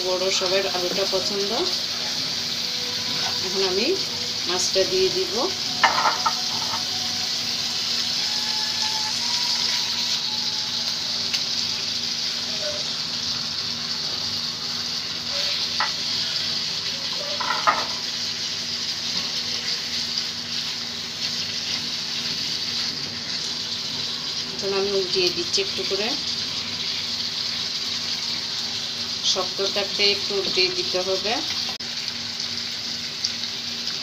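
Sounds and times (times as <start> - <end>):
curry sizzling in a frying pan: 0.0 - 34.0.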